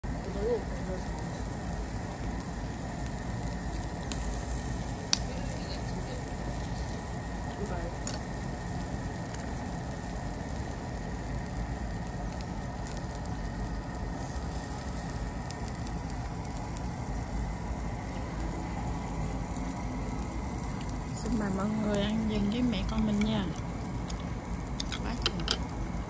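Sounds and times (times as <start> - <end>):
constant low rumble: 0.0 - 26.0
food sizzling on a grill: 0.0 - 26.0.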